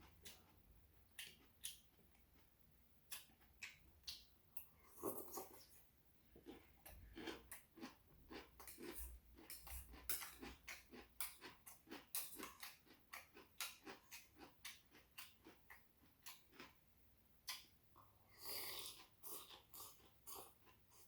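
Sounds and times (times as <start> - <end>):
person chewing with wet smacks: 0.0 - 5.8, 6.4 - 16.8, 17.4 - 21.0.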